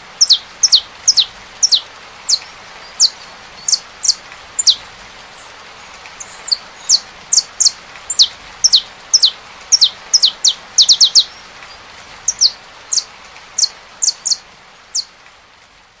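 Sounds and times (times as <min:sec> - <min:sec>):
rain hissing: 0:00.0 - 0:16.0
finch chirping: 0:00.2 - 0:15.1.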